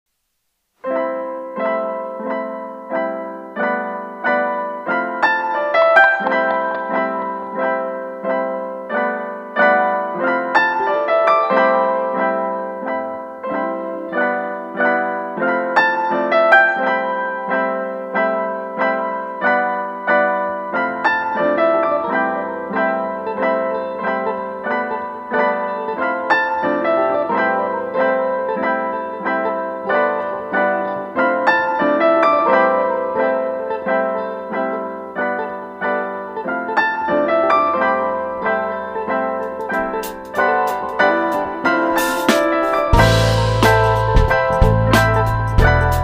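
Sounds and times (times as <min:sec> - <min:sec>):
piano chords: 0:00.8 - 0:46.0.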